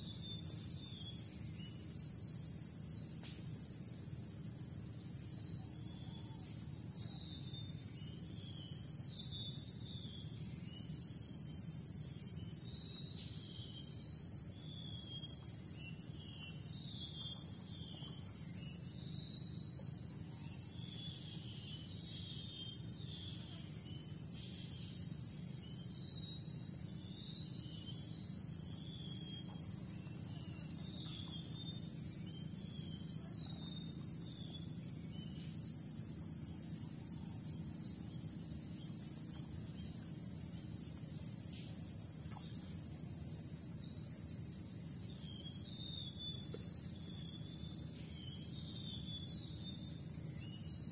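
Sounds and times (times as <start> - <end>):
insect chorus droning: 0.0 - 50.9.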